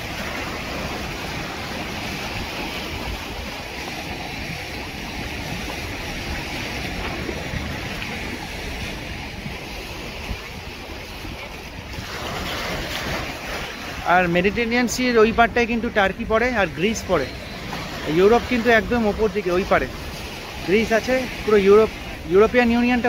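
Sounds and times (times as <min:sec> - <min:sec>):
wind across microphone: 0:00.0 - 0:22.4
surf washing against rocks: 0:00.0 - 0:23.0.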